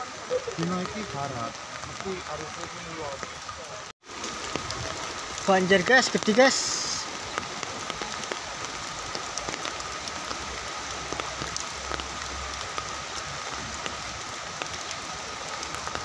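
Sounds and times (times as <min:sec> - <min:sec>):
rain falling on foliage and water: 0:00.0 - 0:16.0.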